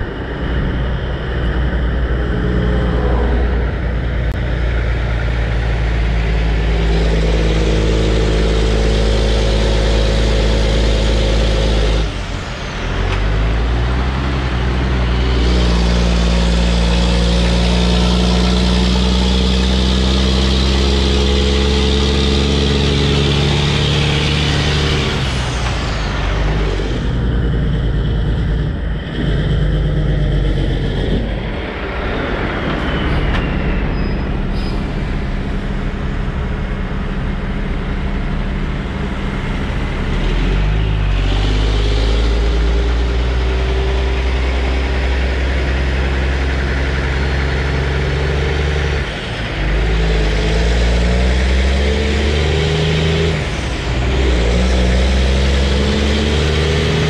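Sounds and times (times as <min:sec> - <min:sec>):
diesel truck engines rumbling: 0:00.0 - 0:57.0.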